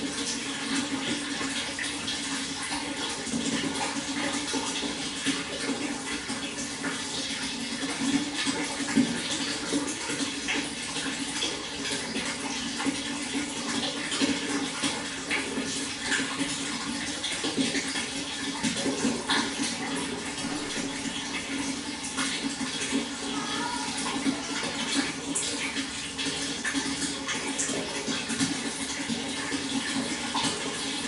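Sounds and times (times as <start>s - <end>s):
flowing water: 0.0s - 31.0s
small water splashes: 0.0s - 31.0s.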